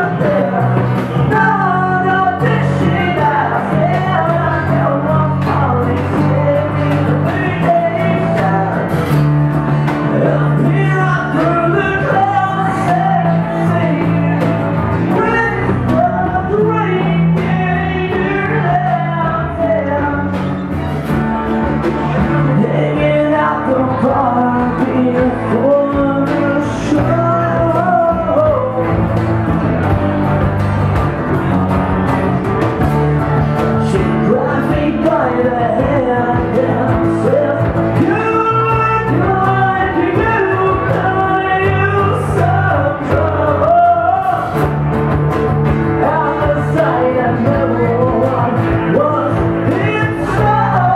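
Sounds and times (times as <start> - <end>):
drums: 0.0 - 50.9
person singing lead vocal: 0.0 - 50.9
strummed acoustic guitars: 0.0 - 50.9.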